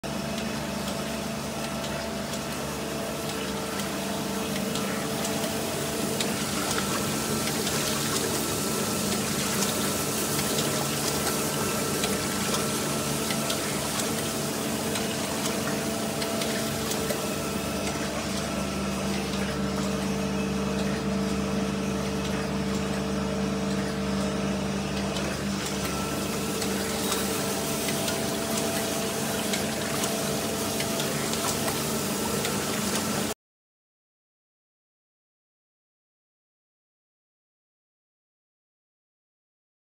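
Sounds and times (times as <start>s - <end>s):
motor and pump hum: 0.0s - 33.4s
coolant pouring and splashing: 0.1s - 33.3s.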